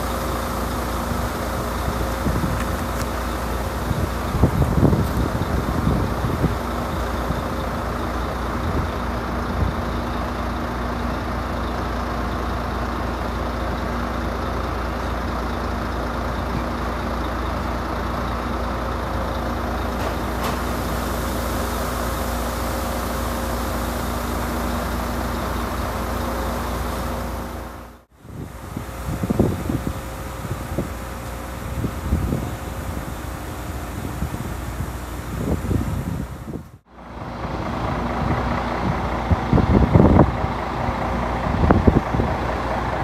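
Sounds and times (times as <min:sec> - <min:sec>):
truck diesel engine idling: 0:00.0 - 0:43.0.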